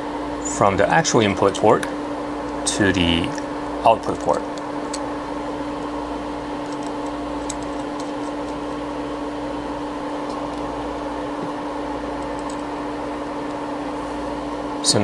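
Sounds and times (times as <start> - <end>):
test equipment humming: 0.0 - 15.0.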